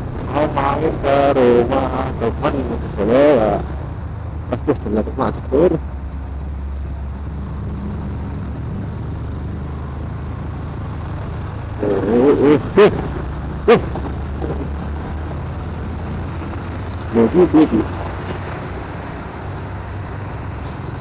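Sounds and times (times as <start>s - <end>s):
motorcycle engine drone: 0.0s - 21.0s
road and wind noise: 0.0s - 21.0s
trucks running alongside: 0.0s - 21.0s.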